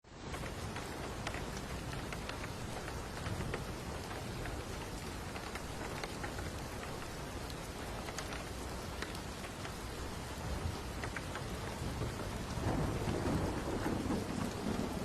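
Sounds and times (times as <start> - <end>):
steady rain falling: 0.0 - 15.0
raindrops ticking near microphone: 0.1 - 15.0.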